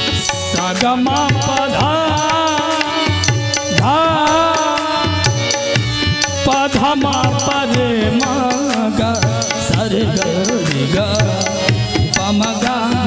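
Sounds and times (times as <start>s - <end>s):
man singing into a microphone: 0.0s - 13.0s
steady drum accompaniment: 0.0s - 13.0s.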